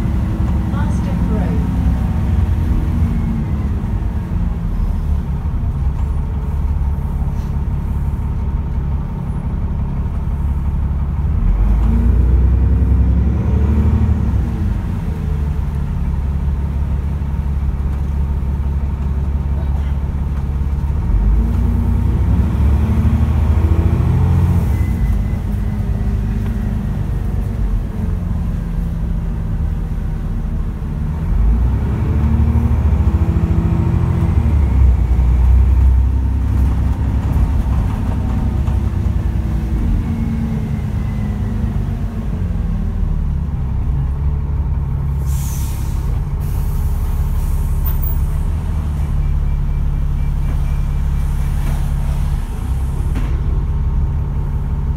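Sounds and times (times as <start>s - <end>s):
bus diesel engine accelerating: 0.0s - 54.9s.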